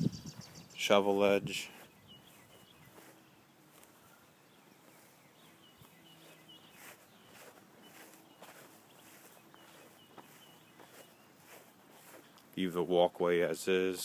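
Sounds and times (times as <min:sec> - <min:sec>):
faint bird chirps: 0:00.0 - 0:12.5
soft footsteps on grass: 0:00.0 - 0:14.0.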